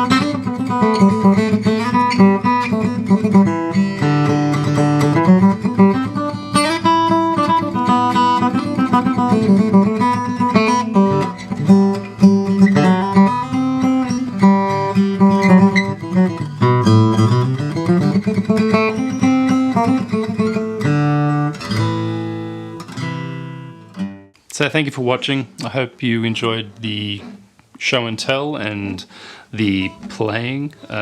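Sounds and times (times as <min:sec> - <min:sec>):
acoustic guitar playing: 0:00.0 - 0:24.4, 0:29.1 - 0:31.0.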